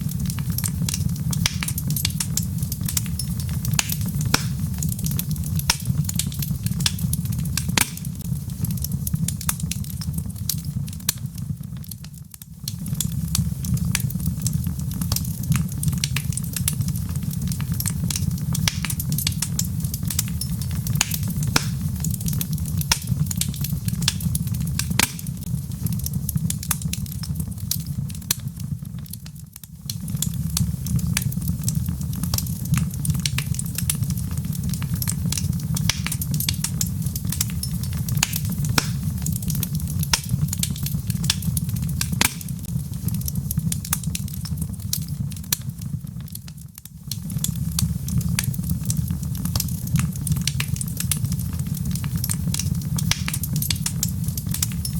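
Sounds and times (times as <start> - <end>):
low rumble of flame: 0.0 - 54.9
wood fire crackling and popping: 0.0 - 54.9.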